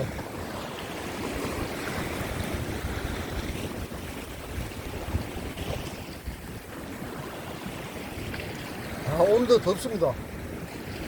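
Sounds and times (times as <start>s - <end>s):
surf washing against rocks: 0.0s - 11.0s
wind buffeting microphone: 0.0s - 11.0s.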